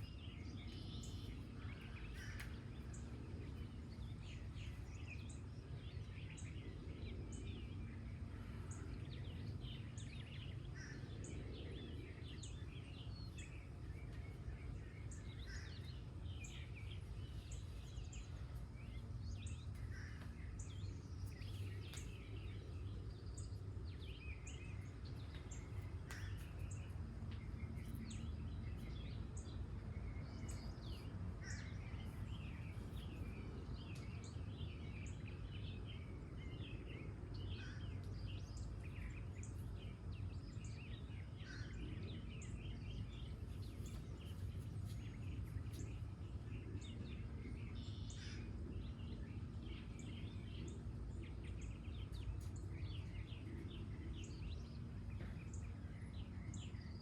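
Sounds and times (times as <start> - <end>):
low outdoor rumble: 0.0 - 57.0
wild birds singing and chirping: 0.0 - 57.0.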